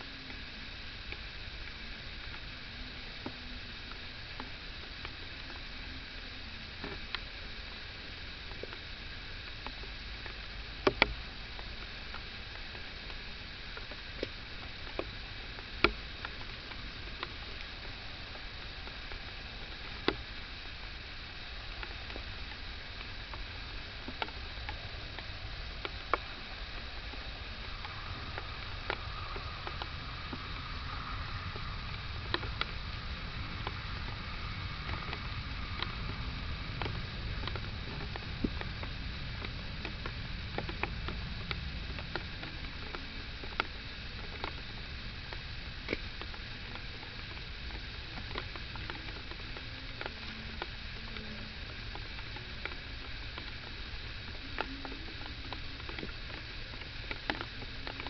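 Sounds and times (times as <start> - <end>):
rain hiss: 0.0 - 58.0
steady low rumble: 0.0 - 58.0
sharp ticks: 8.2 - 58.0.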